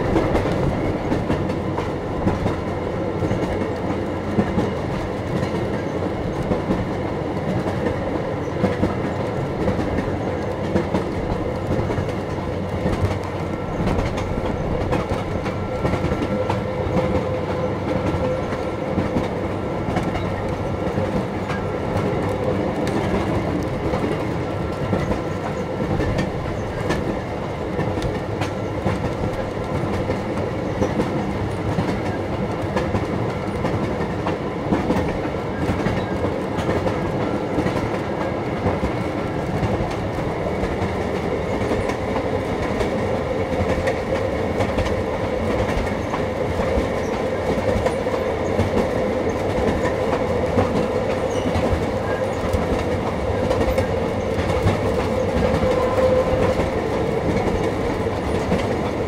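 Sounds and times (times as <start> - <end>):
train wheels clacking on rails: 0.0 - 59.0.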